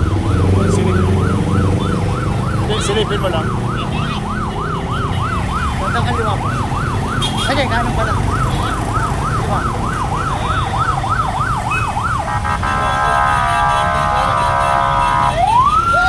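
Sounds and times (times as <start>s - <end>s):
emergency siren yelping: 0.0s - 16.0s
low rumble of crowd and traffic: 0.0s - 16.0s.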